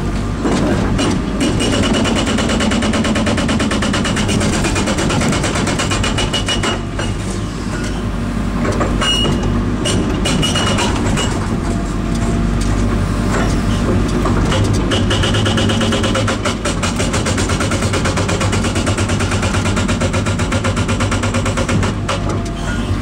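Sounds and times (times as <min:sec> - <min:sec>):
hydraulic breaker hammering: 0:00.4 - 0:07.2, 0:08.6 - 0:11.6, 0:13.3 - 0:22.8.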